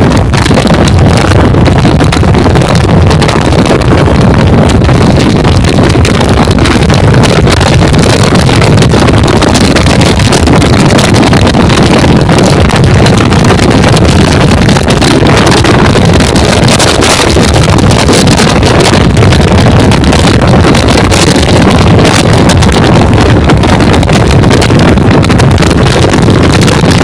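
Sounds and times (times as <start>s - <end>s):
train rumbling and clattering: 0.0s - 27.0s
wind buffeting microphone: 0.0s - 27.0s.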